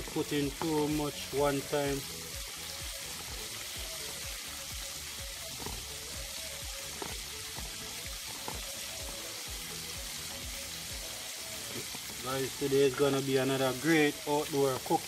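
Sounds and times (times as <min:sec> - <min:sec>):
chicken deep-frying in oil: 0:00.0 - 0:15.0
oil popping: 0:00.0 - 0:15.0.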